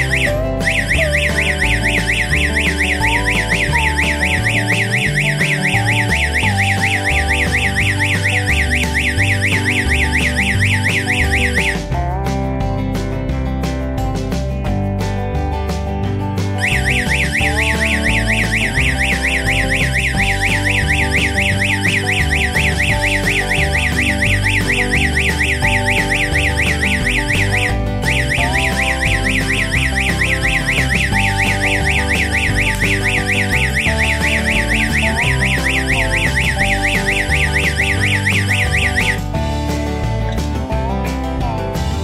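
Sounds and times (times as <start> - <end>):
electronic alarm siren warbling: 0.0 - 11.8, 16.6 - 39.4
background music: 0.0 - 42.0.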